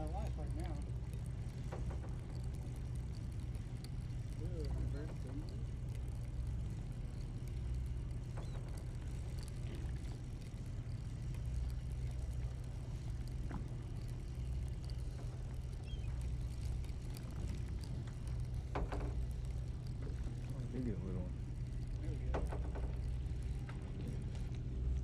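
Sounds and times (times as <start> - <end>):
boat engine droning: 0.0 - 25.0
faint clicks and knocks: 0.0 - 25.0.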